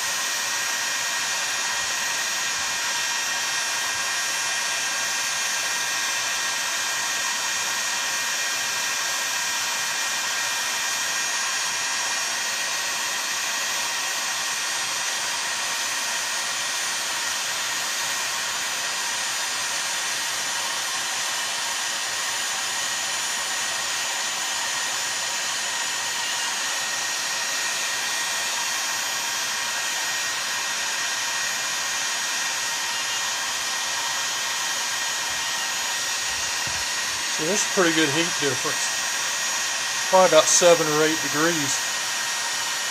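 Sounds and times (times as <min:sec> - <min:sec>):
heat gun blowing and whining: 0:00.0 - 0:42.9.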